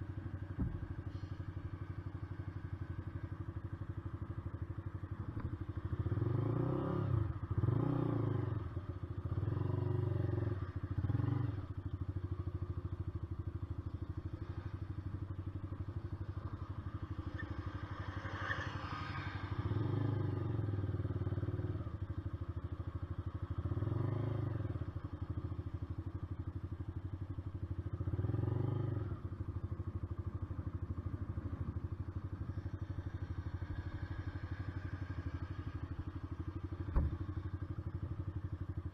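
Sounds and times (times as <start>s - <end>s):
motorcycle engine revving: 5.3s - 12.1s, 13.7s - 38.9s.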